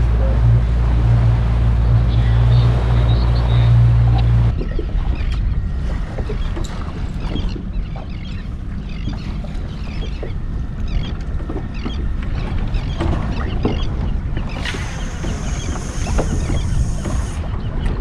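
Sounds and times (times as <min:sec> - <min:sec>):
water lapping against boat hull: 0:00.0 - 0:18.0
wind on microphone: 0:00.0 - 0:18.0.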